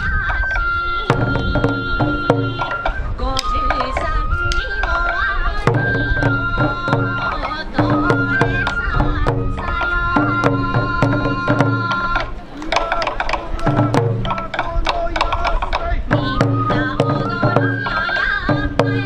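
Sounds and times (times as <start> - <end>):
bamboo flutes playing melody: 0.0 - 19.0
taiko drum beats: 1.0 - 4.1, 4.8 - 19.0.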